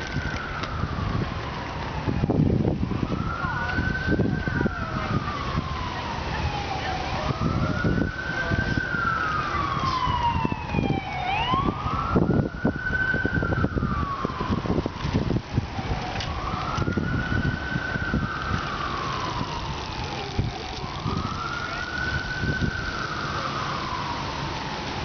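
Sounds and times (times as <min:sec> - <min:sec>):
siren wailing: 0:00.0 - 0:25.0.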